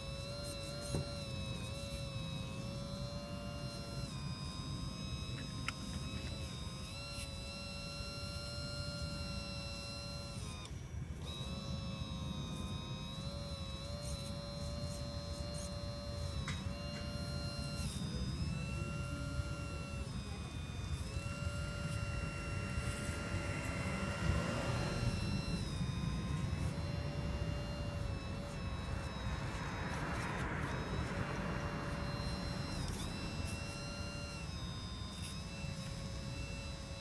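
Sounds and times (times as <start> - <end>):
hydraulic pump motor whining: 0.0 - 37.0.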